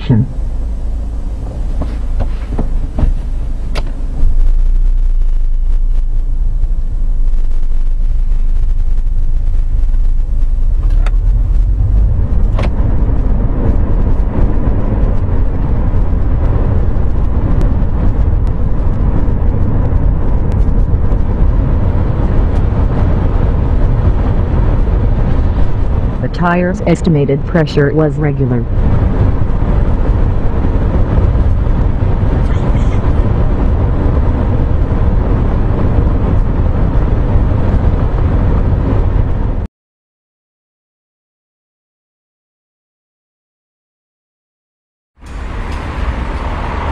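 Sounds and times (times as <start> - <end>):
car engine rumble: 0.0 - 39.7, 45.2 - 46.9.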